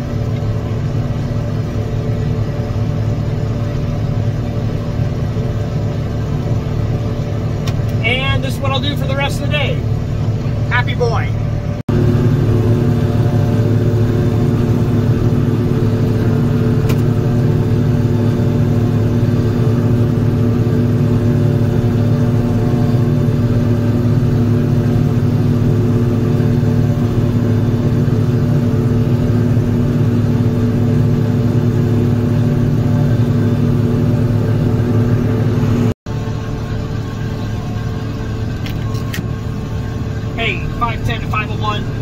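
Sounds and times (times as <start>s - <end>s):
forage harvester droning: 0.0s - 42.0s.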